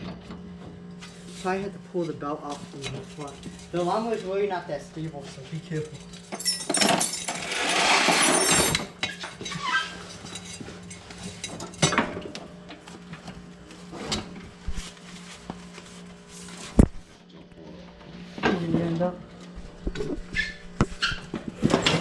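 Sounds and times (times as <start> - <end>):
steady low hum: 0.0 - 7.5, 8.3 - 22.0.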